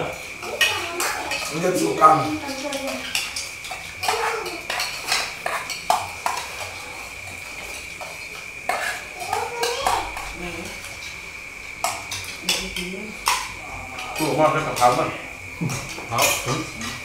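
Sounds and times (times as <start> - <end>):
cutlery clinking on plates: 0.4 - 11.2, 11.8 - 17.0.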